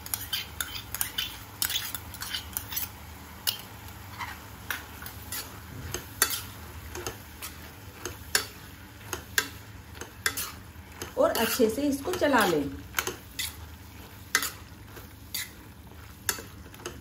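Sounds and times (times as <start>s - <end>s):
spoon clinking and scraping pan: 0.0s - 3.7s, 4.7s - 14.7s, 15.3s - 17.0s.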